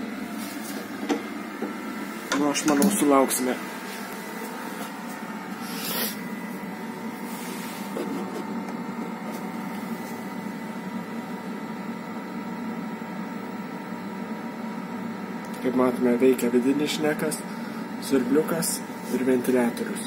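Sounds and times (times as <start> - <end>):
pellet burner machine hum: 0.0 - 20.0.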